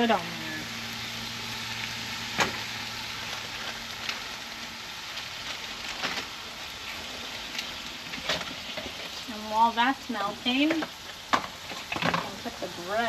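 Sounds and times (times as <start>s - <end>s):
meat and water sizzling on griddle: 0.0s - 13.0s
sharp crackles: 0.0s - 13.0s.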